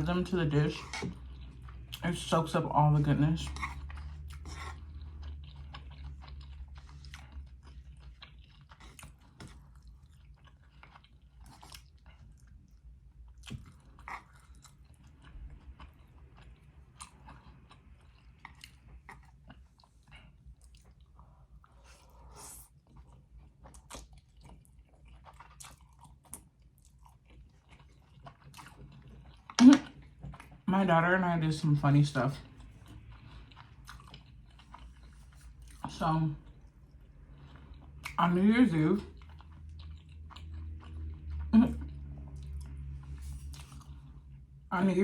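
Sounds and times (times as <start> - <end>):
chewing and mouth sounds: 0.0 - 44.7.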